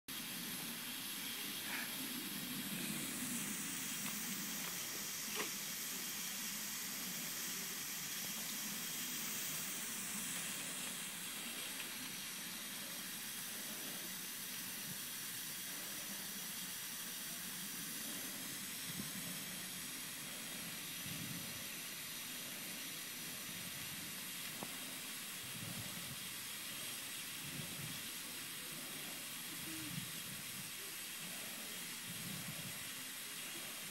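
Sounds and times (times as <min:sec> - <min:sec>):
lawn sprinkler spraying water: 0:00.1 - 0:33.9.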